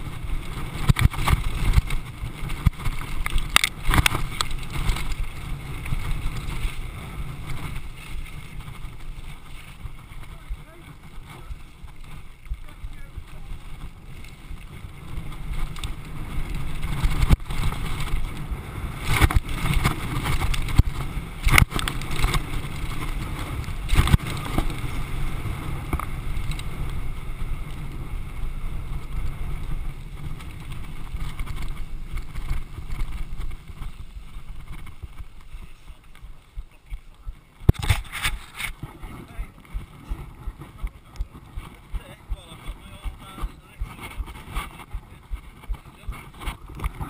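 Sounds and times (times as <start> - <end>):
mountain bike rattling over rocks: 0.0 - 47.0
wind on microphone: 0.0 - 47.0.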